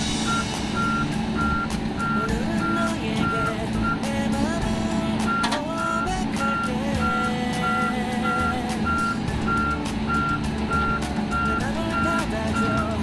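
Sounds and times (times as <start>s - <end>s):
diesel engine running: 0.0s - 13.0s
backup alarm beeping: 0.2s - 4.1s, 5.2s - 13.0s.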